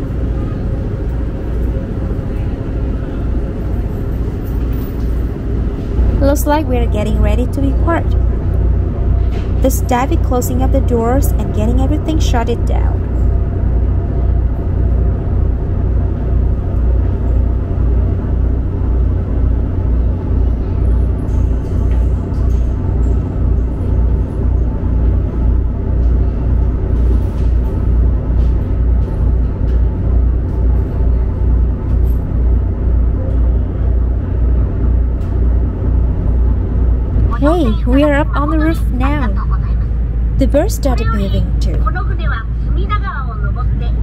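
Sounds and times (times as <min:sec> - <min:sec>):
boat engines rumbling: 0:00.0 - 0:44.0.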